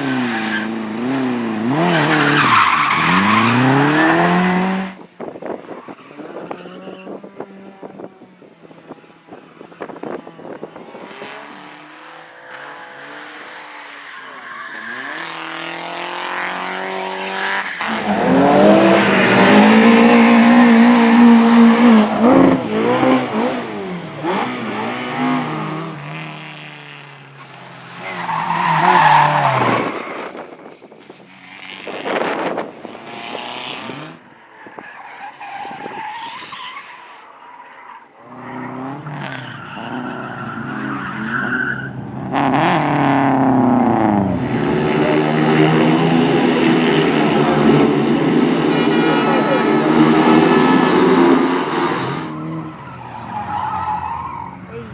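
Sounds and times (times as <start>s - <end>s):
race cars revving past: 0.0s - 34.9s, 38.2s - 54.9s
tyres skidding: 0.0s - 54.9s.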